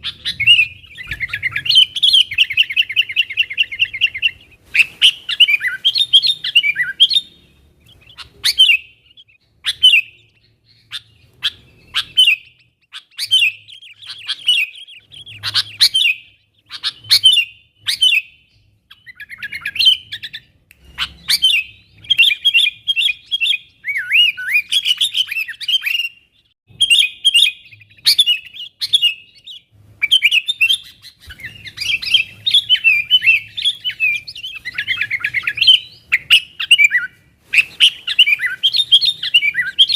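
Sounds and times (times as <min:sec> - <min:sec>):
bulbul chirping: 0:00.0 - 0:39.9.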